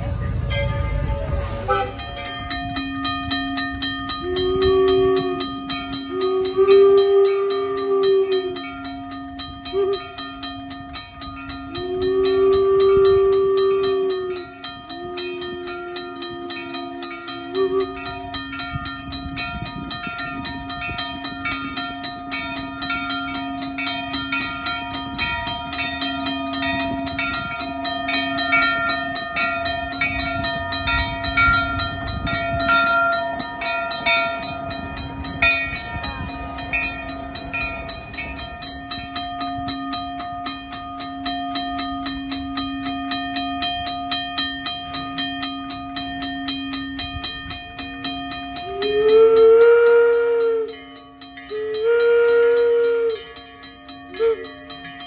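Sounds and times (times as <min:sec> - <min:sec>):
crossing bell ringing rapidly: 0:00.0 - 0:55.0
steam locomotive rumble: 0:00.0 - 0:55.0.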